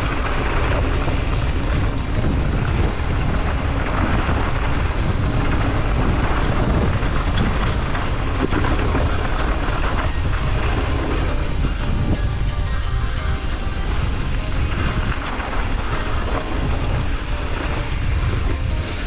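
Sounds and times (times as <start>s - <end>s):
bike rattling over stones: 0.0s - 19.0s
bike tyre rumble on gravel: 0.0s - 19.0s
wind buffeting microphone: 0.0s - 19.0s.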